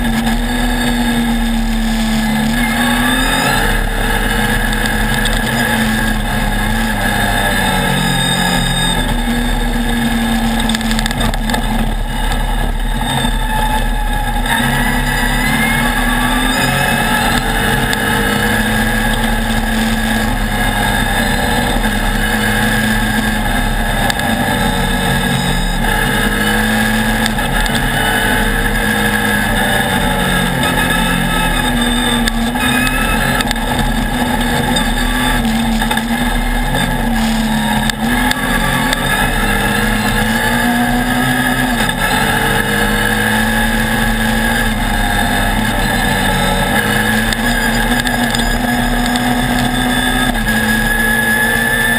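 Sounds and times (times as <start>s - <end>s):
engine running hard: 0.0s - 51.9s.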